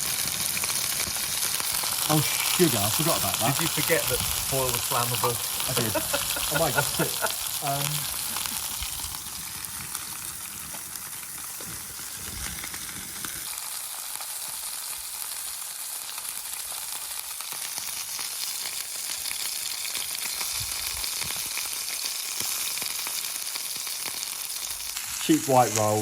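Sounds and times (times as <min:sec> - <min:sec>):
burgers sizzling: 0:00.0 - 0:26.0.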